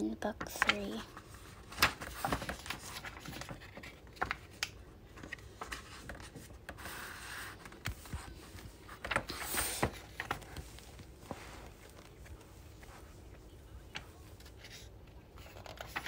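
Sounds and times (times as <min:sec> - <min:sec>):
book pages turning: 0:00.4 - 0:16.0.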